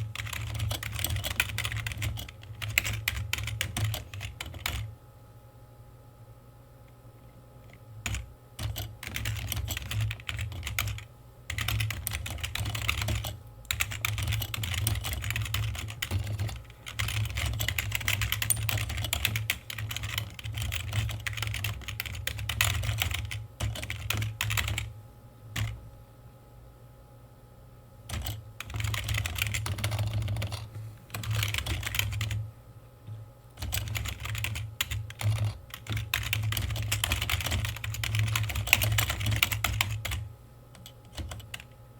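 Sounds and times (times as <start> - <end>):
computer keyboard typing: 0.0 - 4.9, 7.6 - 24.9, 25.6 - 25.8, 28.1 - 32.4, 33.6 - 41.8.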